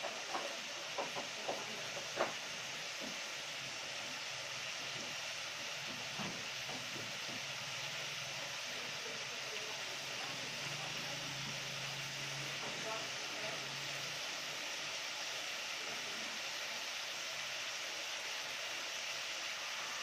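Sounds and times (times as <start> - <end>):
chicken sizzling in a pot: 0.0 - 20.0.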